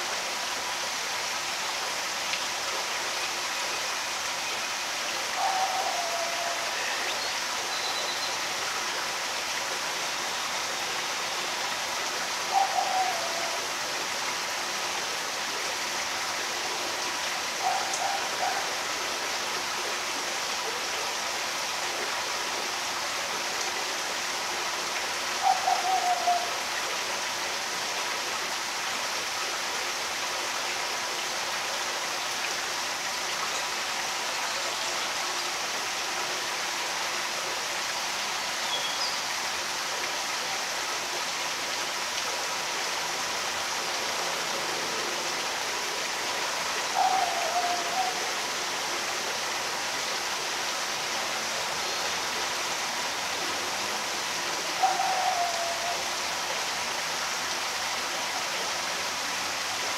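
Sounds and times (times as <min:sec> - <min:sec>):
rushing stream water: 0:00.0 - 0:59.9.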